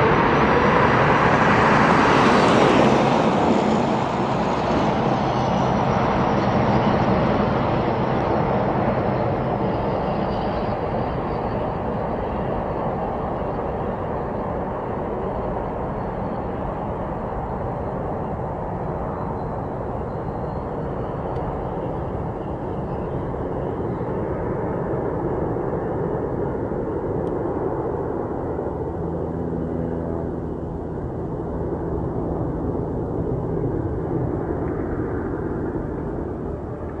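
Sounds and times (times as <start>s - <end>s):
low jet engine rumble: 0.0s - 37.0s.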